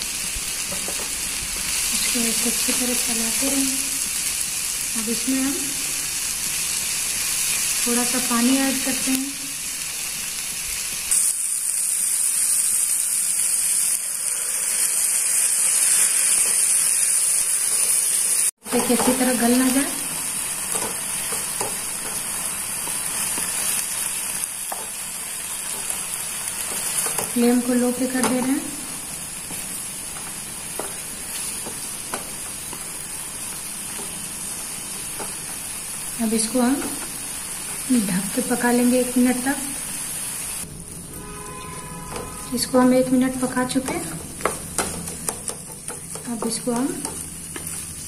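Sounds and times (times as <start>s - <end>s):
vegetables sizzling in a frying pan: 0.0s - 41.0s, 41.8s - 48.0s.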